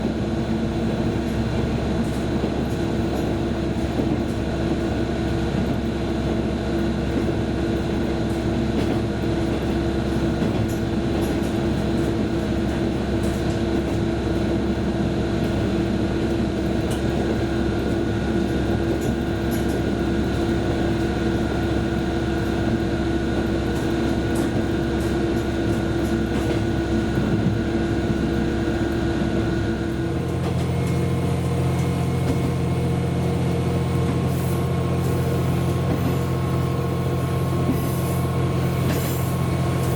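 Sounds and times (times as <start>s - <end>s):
train drive hum: 0.0s - 39.9s
train ride noise: 0.0s - 39.9s.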